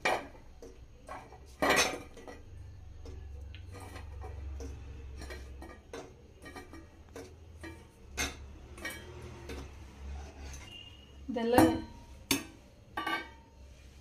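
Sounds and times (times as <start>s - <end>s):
metal kitchenware clinking: 0.0s - 13.6s.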